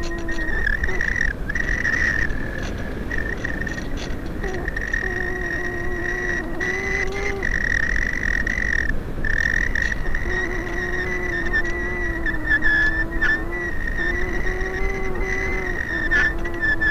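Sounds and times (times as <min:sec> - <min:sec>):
electric motor whine: 0:00.0 - 0:07.6, 0:10.0 - 0:16.9
low wavering hum: 0:00.0 - 0:08.8, 0:09.5 - 0:16.9
wind rushing over microphone: 0:00.0 - 0:16.9.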